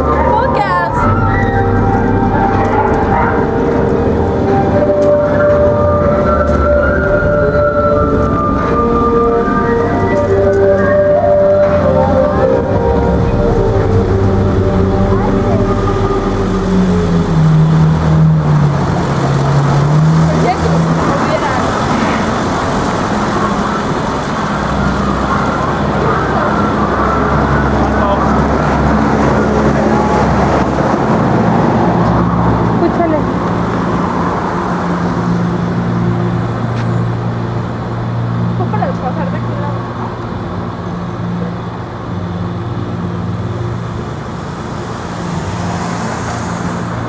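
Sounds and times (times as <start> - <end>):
indistinct voices: 0.0 - 42.2
low engine hum: 0.0 - 47.0
road traffic: 0.0 - 47.0.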